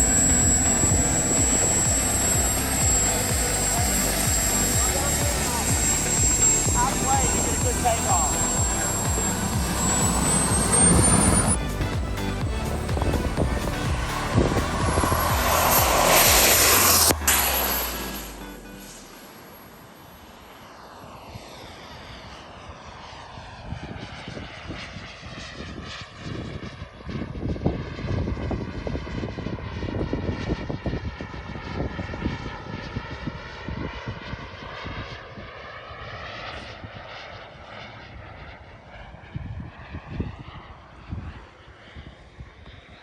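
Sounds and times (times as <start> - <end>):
jet turbine engine passing by: 0.0 - 43.0.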